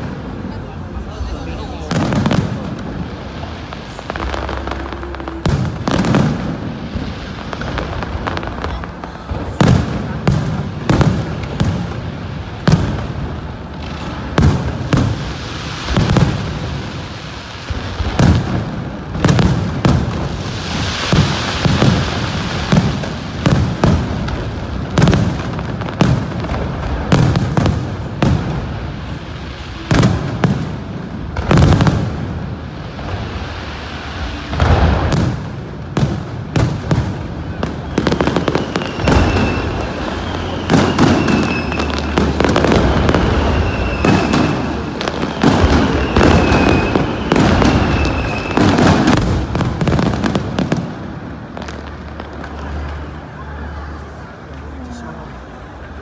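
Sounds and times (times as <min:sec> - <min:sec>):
fireworks bursting: 0:00.0 - 0:56.0
fireworks crackling: 0:00.0 - 0:56.0.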